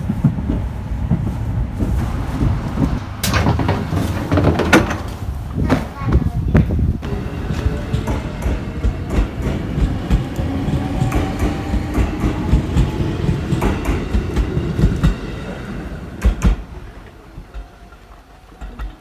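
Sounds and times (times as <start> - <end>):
train rumbling on rails: 0.0 - 19.0
wheels clacking over rail joints: 0.0 - 19.0.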